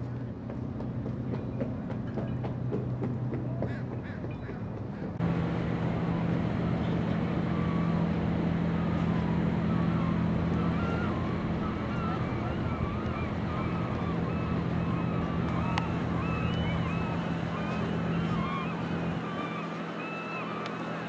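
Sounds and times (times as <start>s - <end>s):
boat diesel engine humming: 0.0s - 21.0s.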